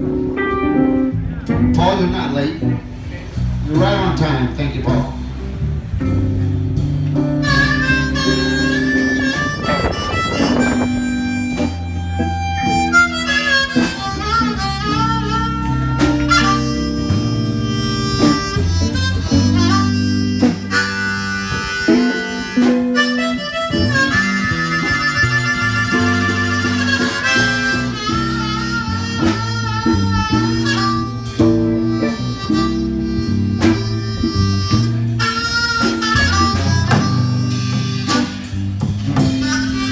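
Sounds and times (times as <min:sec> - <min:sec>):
guitar accompaniment: 0:00.0 - 0:39.9
lead melody: 0:00.0 - 0:39.9.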